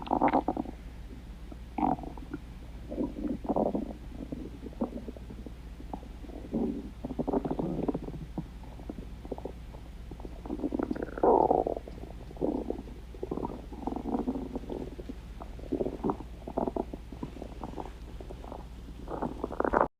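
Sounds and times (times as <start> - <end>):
stomach growling: 0.0 - 0.8, 1.7 - 19.9
steady low hum: 0.0 - 19.9.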